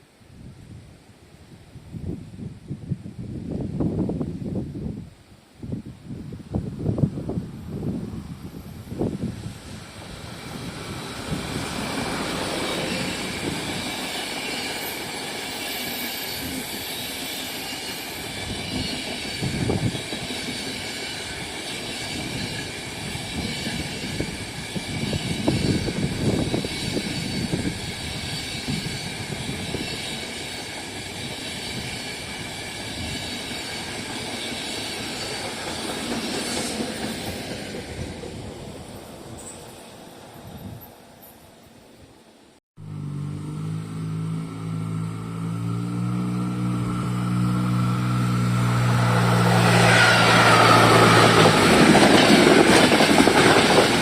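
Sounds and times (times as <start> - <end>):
train wheels on rails: 6.9 - 41.9, 44.6 - 54.0.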